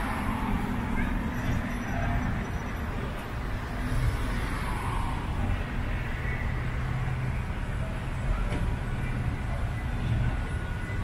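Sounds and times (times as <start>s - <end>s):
car engine and tyre rumble: 0.0s - 11.0s
surrounding traffic hum: 0.0s - 11.0s.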